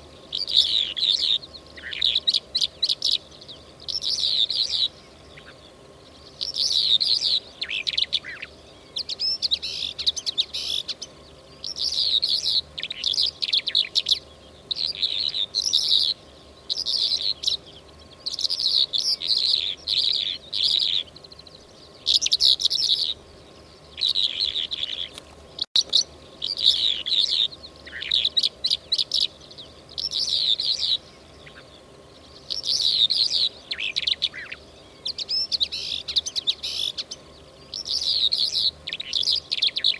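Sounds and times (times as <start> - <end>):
lark song twittering: 0.0 - 39.9.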